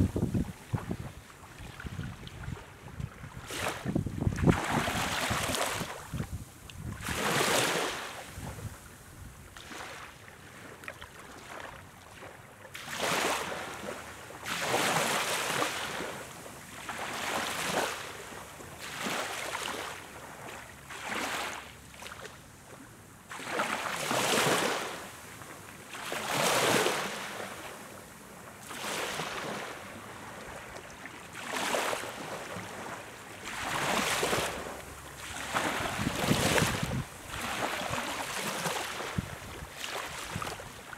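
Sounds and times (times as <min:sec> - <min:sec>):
small waves lapping on beach: 0:00.0 - 0:40.9.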